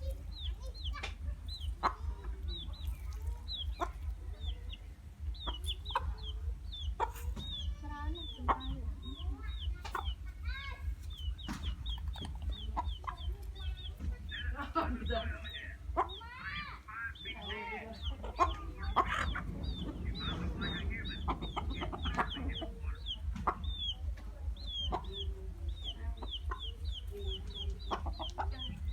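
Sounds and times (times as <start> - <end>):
chickens clucking: 0.0 - 28.9
chicks peeping: 0.0 - 28.9
steady low rumble: 0.0 - 28.9.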